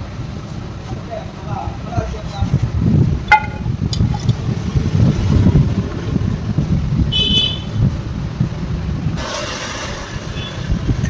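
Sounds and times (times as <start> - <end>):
low background rumble: 1.1 - 11.0.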